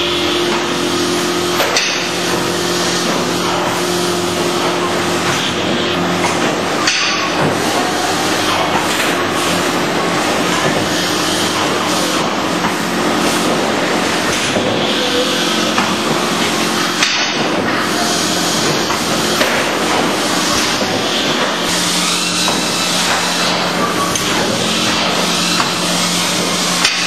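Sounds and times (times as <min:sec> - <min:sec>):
packing machine hum: 0:00.0 - 0:27.0
machine clattering and knocking: 0:00.4 - 0:27.0.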